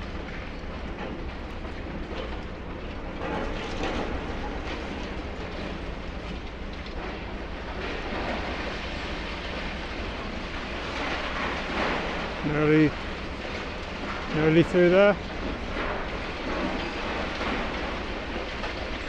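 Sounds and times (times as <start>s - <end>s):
concrete crunching and rattling: 0.0s - 19.0s.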